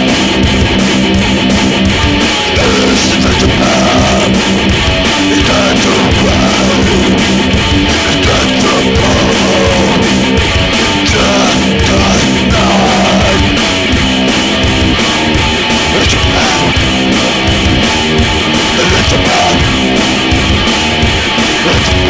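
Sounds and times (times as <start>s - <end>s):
steady drum beat: 0.0s - 22.0s
strummed guitar chords: 0.0s - 22.0s.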